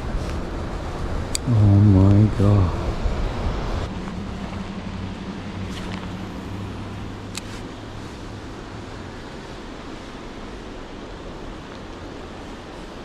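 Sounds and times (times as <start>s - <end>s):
low hum: 0.0s - 13.0s
river water rushing: 0.0s - 13.0s.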